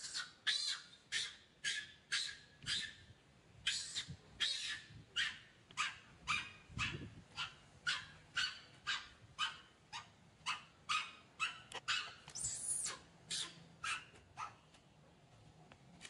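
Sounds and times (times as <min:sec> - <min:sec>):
young monkey crying: 0:00.0 - 0:03.0, 0:03.6 - 0:14.6.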